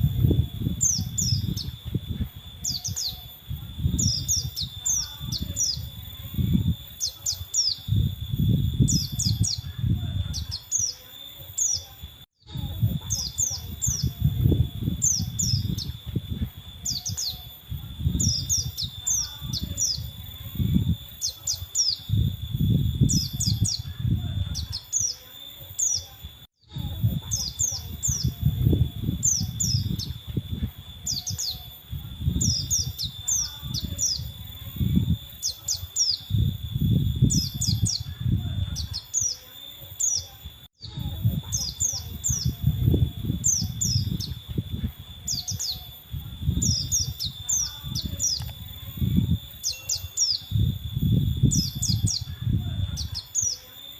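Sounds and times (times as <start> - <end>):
bird singing high chirps: 0.0 - 53.9.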